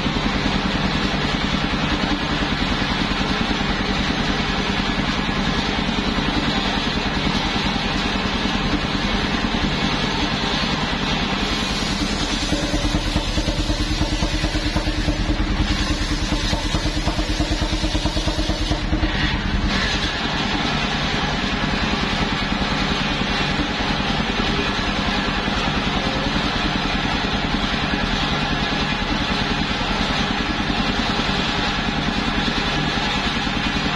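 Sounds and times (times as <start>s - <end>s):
sawmill engine running: 0.0s - 33.9s.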